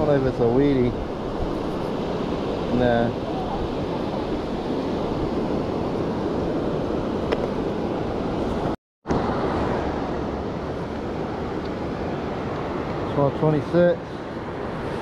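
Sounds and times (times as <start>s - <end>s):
surf washing over shore: 0.0s - 15.0s
wind buffeting microphone: 0.0s - 15.0s.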